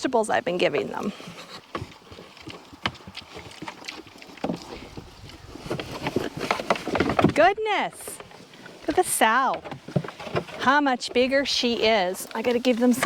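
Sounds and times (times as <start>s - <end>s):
pigs chewing and snuffling: 0.0s - 13.0s.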